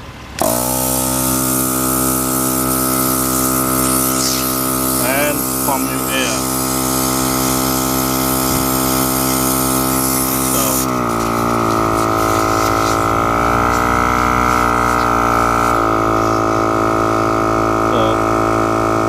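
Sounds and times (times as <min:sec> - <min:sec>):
air compressor motor hum: 0:00.0 - 0:19.0
sharp compressor whine: 0:00.0 - 0:19.0.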